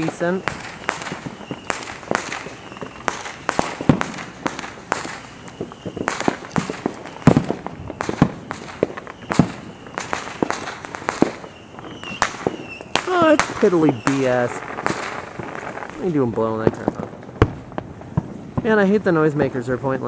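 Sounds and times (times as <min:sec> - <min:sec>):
fireworks bangs and pops: 0:00.0 - 0:20.0.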